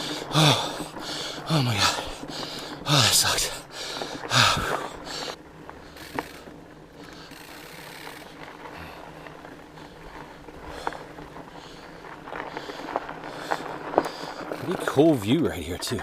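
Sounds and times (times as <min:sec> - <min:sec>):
bike tyres rustling on dirt: 0:00.0 - 0:16.0.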